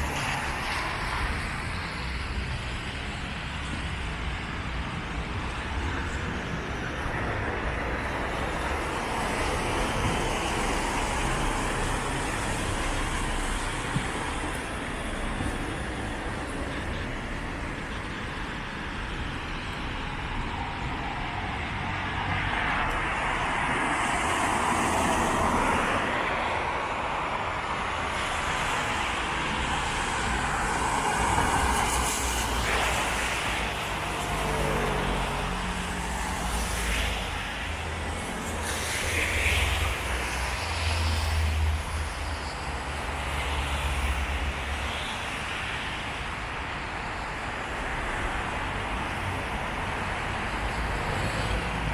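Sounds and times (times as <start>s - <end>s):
tyres hissing on wet road: 0.0s - 51.9s.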